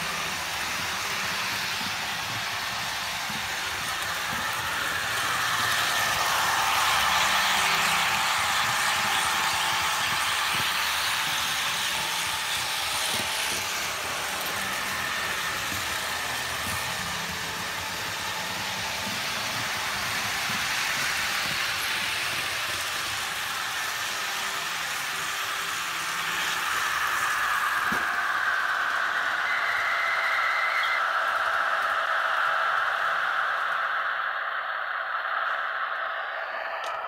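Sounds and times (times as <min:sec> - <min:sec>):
model train rolling on rails: 0:00.0 - 0:37.0.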